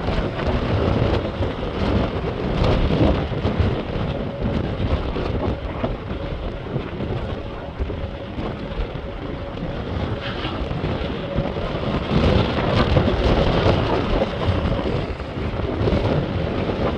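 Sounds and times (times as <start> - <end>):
storm wind buffeting microphone: 0.0 - 16.9.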